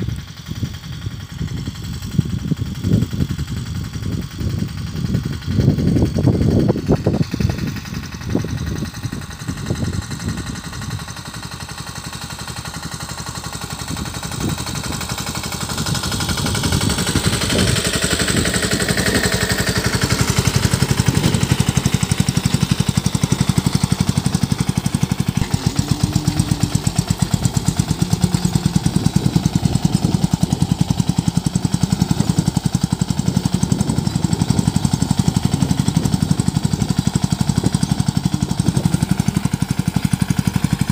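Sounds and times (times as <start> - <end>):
tractor diesel engine thumping: 0.0 - 40.9.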